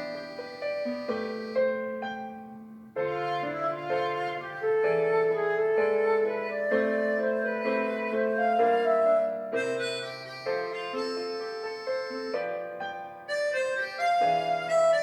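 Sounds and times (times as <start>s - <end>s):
harmonica melody: 0.0s - 15.0s
piano pop backing track: 0.0s - 15.0s.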